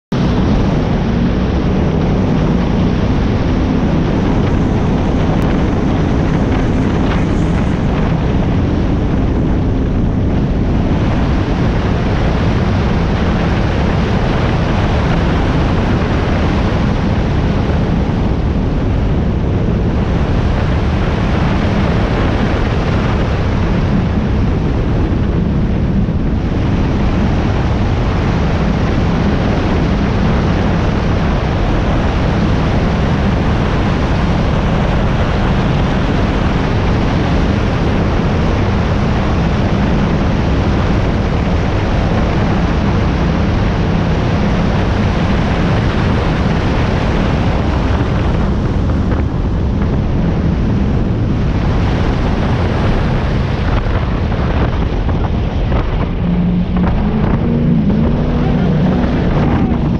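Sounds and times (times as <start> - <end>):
powerboat engine drone: 0.0 - 59.9
wind noise on microphone: 0.0 - 59.9
water rushing past hull: 0.2 - 59.9.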